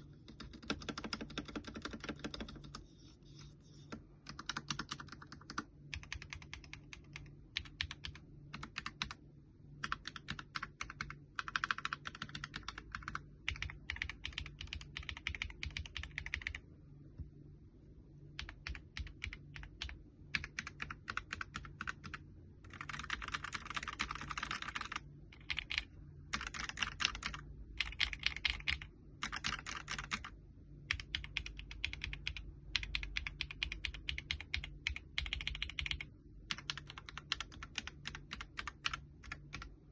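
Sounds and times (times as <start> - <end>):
typing on mechanical keyboard: 0.2 - 2.8, 4.2 - 9.2, 9.8 - 16.6, 18.4 - 39.8.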